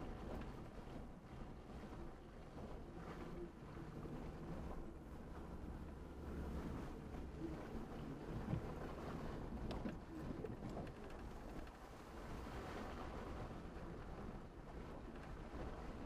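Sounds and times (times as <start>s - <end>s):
truck engine and tyre rumble: 0.0s - 16.0s.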